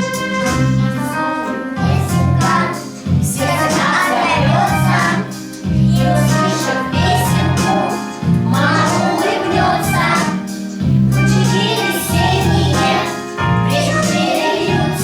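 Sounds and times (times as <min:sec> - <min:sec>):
children singing: 0:00.6 - 0:15.0
backing track with bass line: 0:01.8 - 0:15.0.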